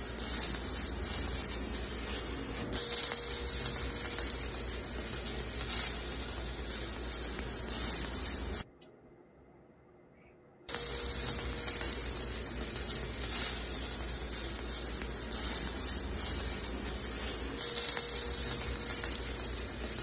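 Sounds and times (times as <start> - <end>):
welding arc crackling hiss: 0.0 - 8.7, 10.7 - 20.0.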